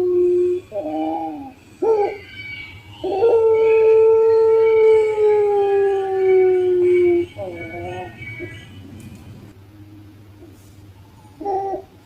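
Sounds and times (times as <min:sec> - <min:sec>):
dove cooing: 0:00.0 - 0:08.8, 0:11.1 - 0:12.0.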